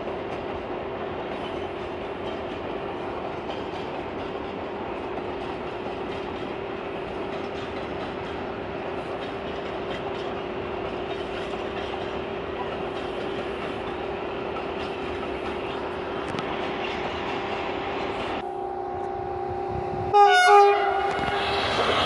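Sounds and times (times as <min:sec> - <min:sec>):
train wheels on rail: 0:00.0 - 0:22.0.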